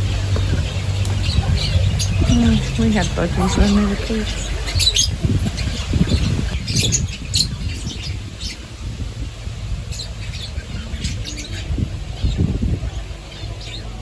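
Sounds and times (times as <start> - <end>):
budgerigars chirping and squawking: 0.0 - 8.8, 9.9 - 14.0
low rumble: 0.0 - 14.0.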